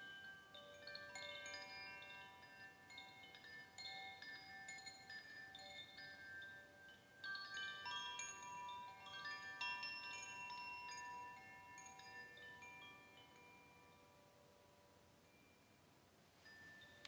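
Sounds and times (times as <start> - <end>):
metal chimes ringing: 0.0 - 15.8, 16.4 - 17.0.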